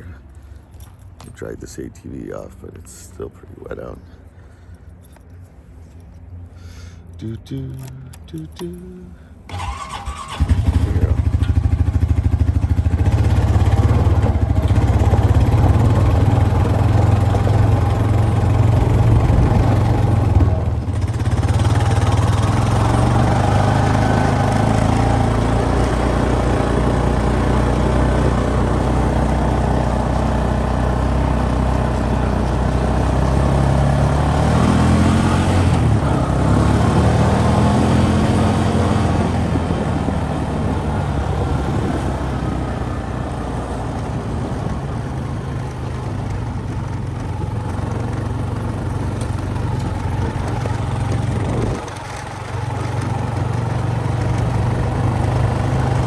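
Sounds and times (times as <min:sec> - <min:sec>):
atv engine running: 0:07.2 - 0:56.0.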